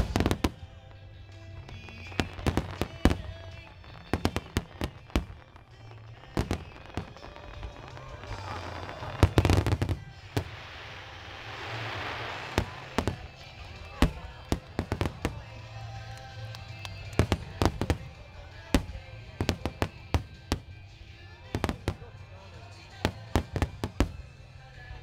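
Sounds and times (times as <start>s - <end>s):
firework shells bursting: 0.0s - 24.4s
crackling hiss of fireworks: 0.0s - 25.0s.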